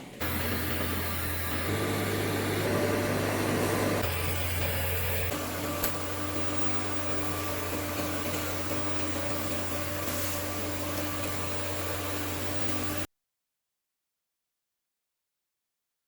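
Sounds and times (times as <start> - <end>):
welding machine hum and hiss: 0.0 - 13.1.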